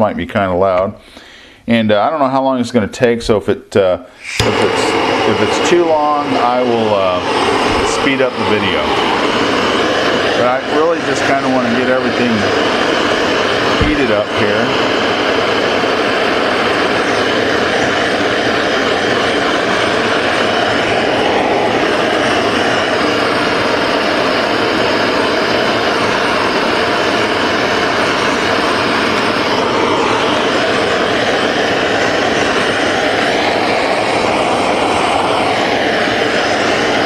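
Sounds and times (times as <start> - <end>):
gas torch flame rushing: 4.2 - 37.0.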